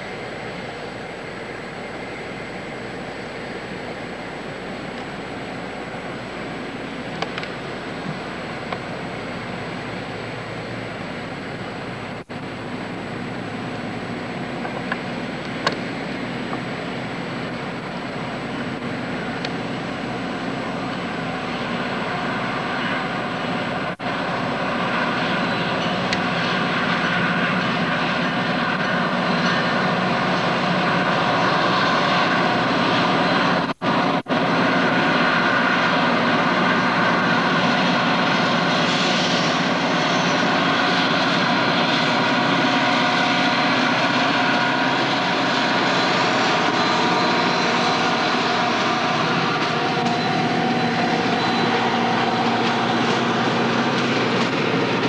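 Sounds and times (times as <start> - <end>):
diesel locomotive engine droning: 0.0 - 55.0.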